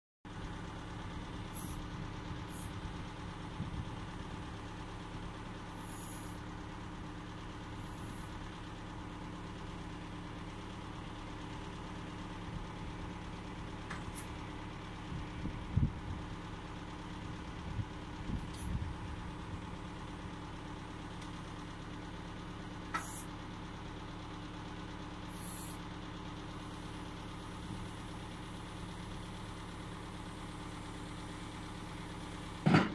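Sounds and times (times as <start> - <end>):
engine idling: 0.3 - 32.9.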